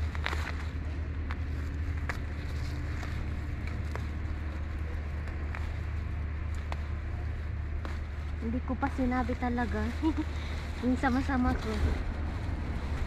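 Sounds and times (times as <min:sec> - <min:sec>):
distant traffic rumble: 0:00.0 - 0:13.0
leaves and stems clicking: 0:00.0 - 0:13.0.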